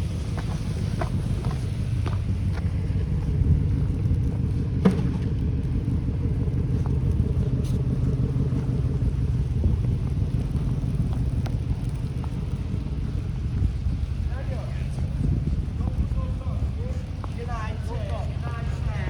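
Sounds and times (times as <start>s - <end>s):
traffic noise: 0.0s - 19.0s
wind: 0.0s - 19.0s.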